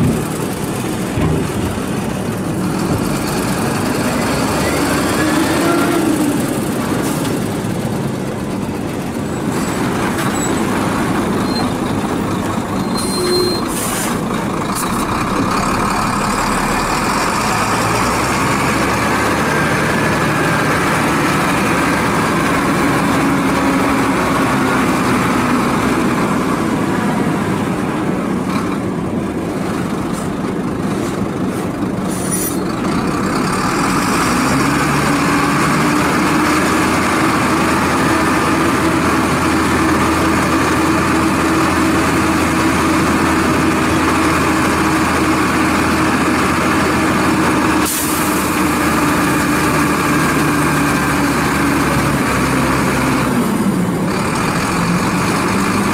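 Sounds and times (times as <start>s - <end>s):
heavy diesel truck engines: 0.0s - 55.9s.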